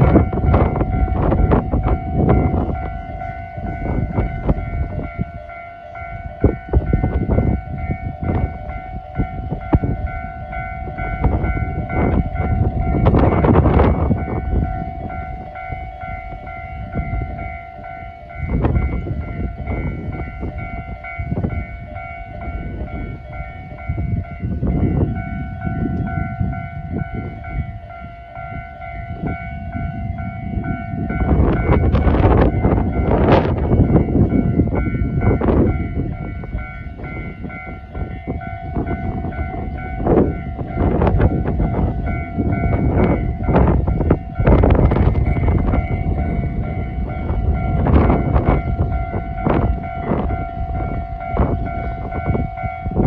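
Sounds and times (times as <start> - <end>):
level crossing alarm ringing: 0.0 - 53.0.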